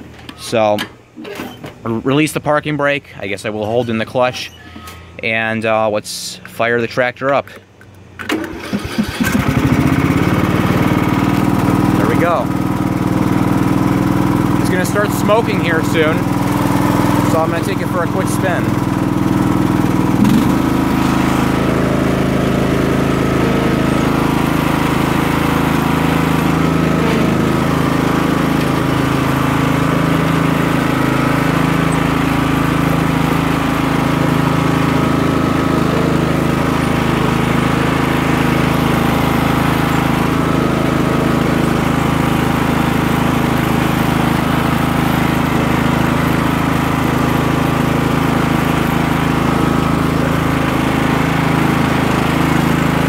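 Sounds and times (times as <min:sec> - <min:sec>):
lawn tractor engine running: 0:03.0 - 0:53.0.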